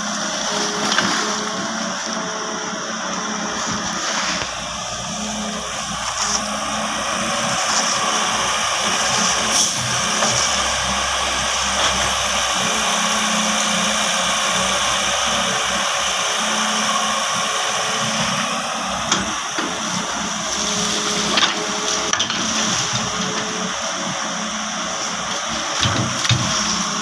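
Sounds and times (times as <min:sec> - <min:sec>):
excavator engine and hydraulics whining: 0:00.0 - 0:27.0.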